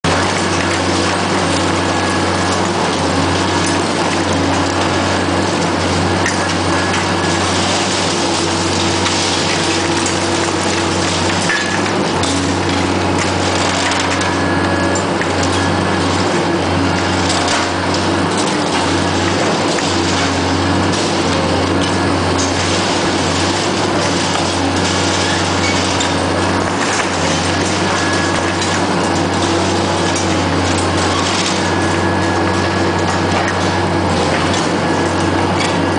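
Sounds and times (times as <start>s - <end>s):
concrete cracking: 0.0s - 35.9s
excavator engine hum: 0.0s - 35.9s.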